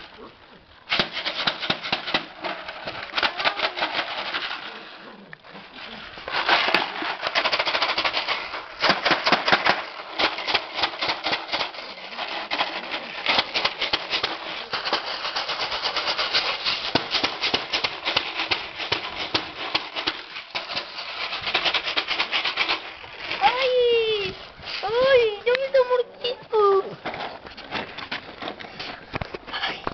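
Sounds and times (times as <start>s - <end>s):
plastic bottle crackling: 0.8s - 29.9s.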